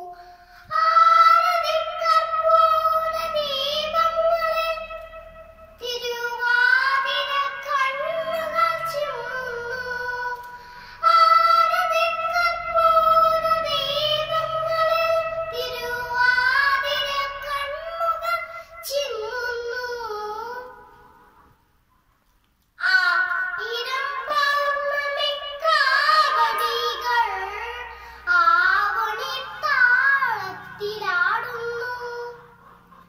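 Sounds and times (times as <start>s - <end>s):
girl singing: 0.0s - 21.4s, 22.8s - 32.6s.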